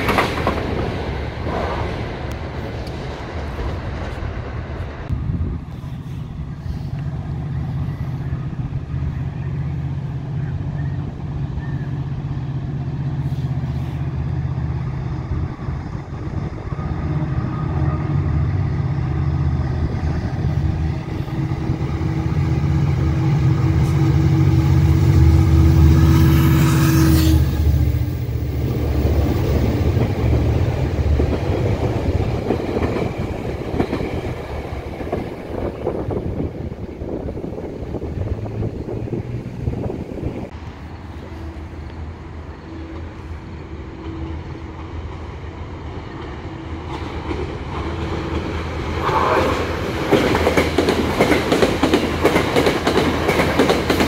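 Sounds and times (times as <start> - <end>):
train wheels on rails: 0.0 - 54.0
locomotive engine drone: 1.0 - 50.1.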